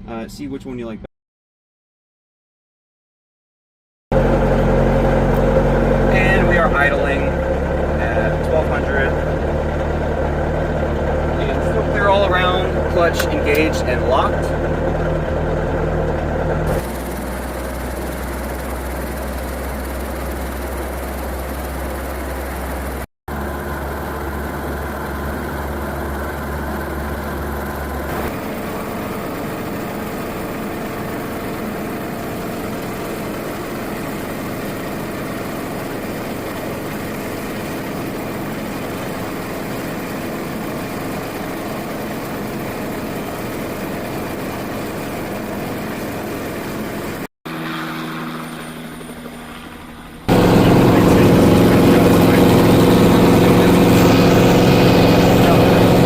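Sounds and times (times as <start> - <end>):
helicopter piston engine idling: 4.2 - 56.0.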